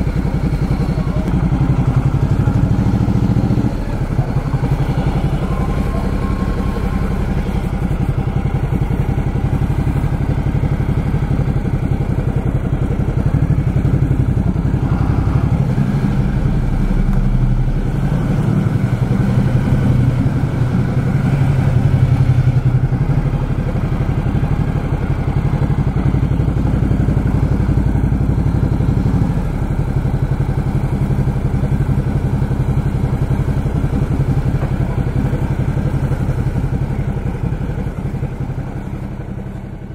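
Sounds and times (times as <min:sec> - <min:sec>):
motorcycle engine throbbing: 0:00.0 - 0:39.9.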